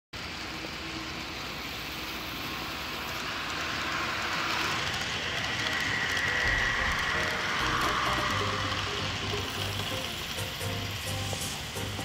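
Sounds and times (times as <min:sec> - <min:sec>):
model train wheels on rails: 0:00.2 - 0:12.0
thin whine: 0:00.2 - 0:12.0.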